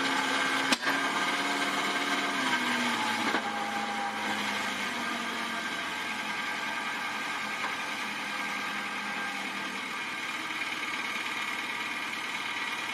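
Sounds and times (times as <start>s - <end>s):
car engine running: 2.2s - 12.9s.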